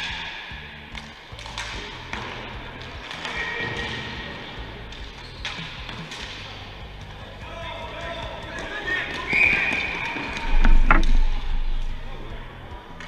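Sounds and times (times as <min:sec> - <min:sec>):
hockey sticks and ball knocking: 0:00.0 - 0:06.7, 0:08.0 - 0:11.8.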